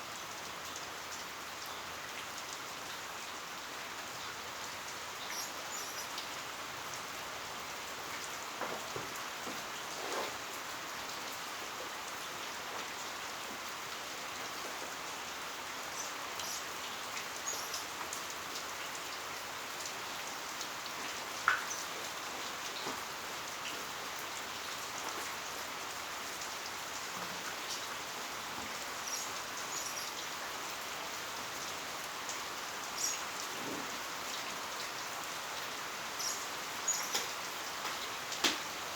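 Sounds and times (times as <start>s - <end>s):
heavy rain hissing: 3.0s - 38.9s.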